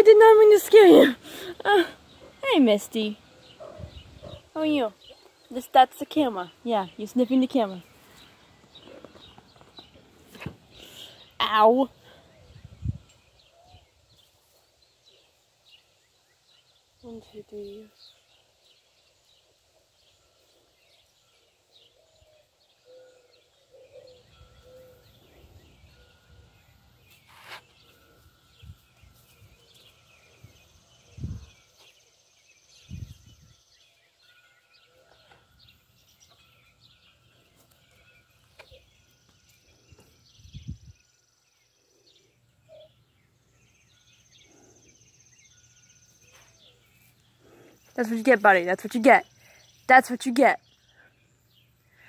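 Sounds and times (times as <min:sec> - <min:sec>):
faint bird chirps: 0:00.9 - 0:52.0.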